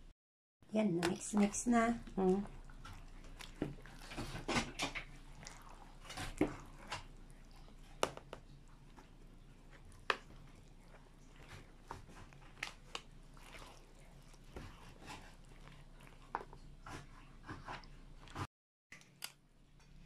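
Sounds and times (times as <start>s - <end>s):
spoon stirring wet paste: 0.8s - 20.0s.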